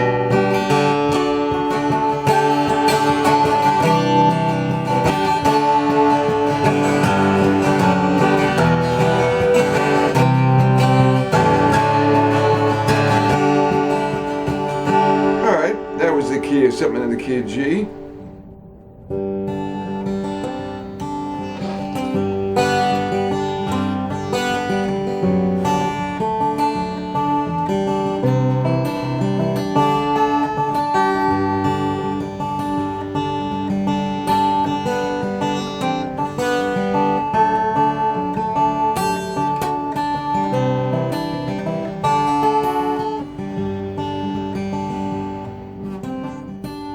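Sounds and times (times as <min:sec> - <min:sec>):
acoustic guitar chords: 0:00.0 - 0:46.9.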